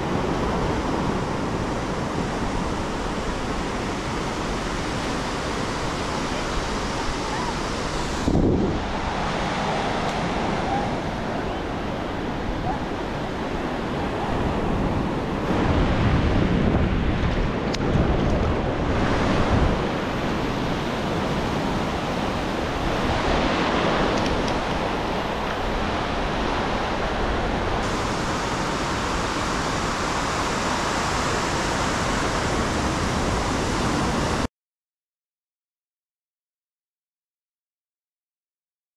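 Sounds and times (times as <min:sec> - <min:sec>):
ocean surf breaking on sand: 0:00.0 - 0:34.5
wind on microphone: 0:00.0 - 0:34.5.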